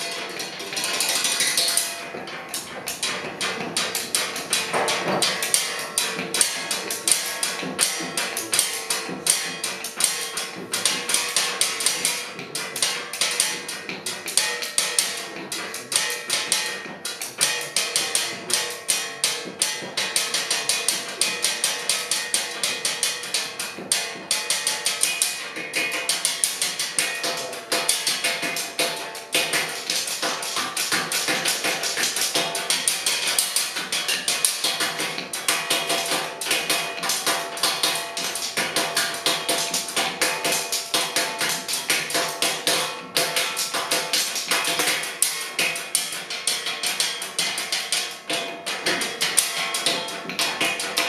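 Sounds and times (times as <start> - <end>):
drumsticks striking a tabletop: 0.0 - 51.0.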